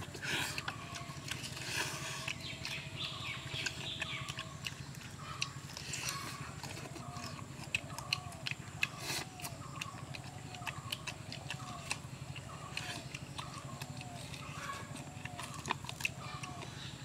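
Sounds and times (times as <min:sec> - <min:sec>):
chewing and lip-smacking: 0:00.0 - 0:17.0
steady low hum: 0:00.0 - 0:17.0.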